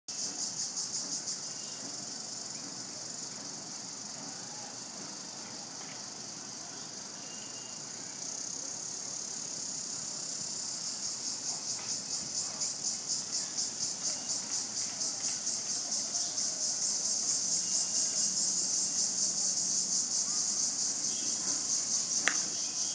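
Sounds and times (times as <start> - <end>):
insects chirring: 0.1 - 22.9.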